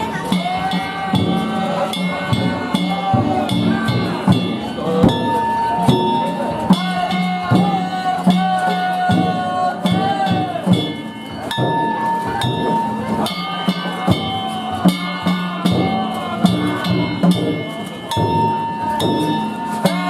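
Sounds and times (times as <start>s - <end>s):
drum strikes: 0.0s - 20.0s.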